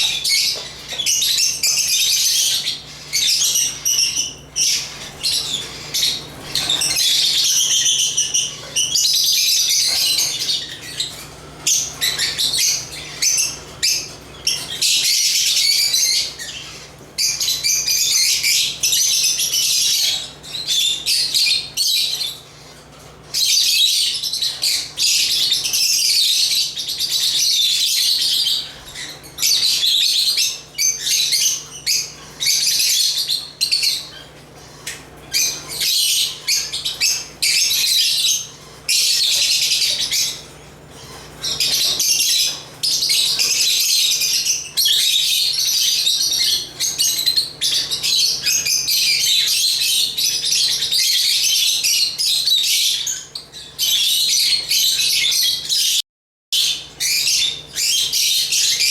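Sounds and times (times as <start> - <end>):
lovebirds chirping and squawking: 0.0 - 56.0, 56.6 - 58.9.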